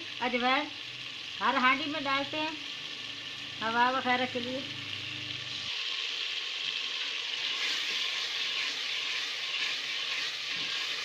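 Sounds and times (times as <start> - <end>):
masala sizzling in hot oil: 0.0 - 11.0.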